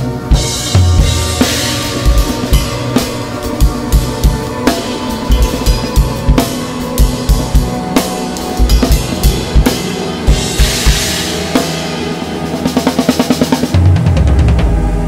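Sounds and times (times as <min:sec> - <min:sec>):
snare and cymbal hits: 0:00.0 - 0:15.0
steady ringing tones: 0:00.1 - 0:13.2.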